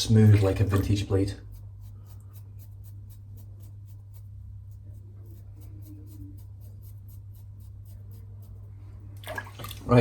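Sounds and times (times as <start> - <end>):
razor scraping stubble: 0.0 - 8.7.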